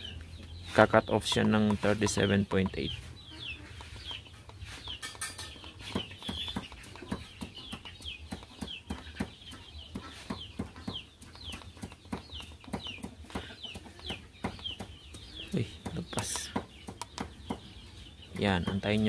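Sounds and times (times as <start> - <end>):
chickens clucking: 0.0 - 19.0
chicks peeping: 0.0 - 19.0.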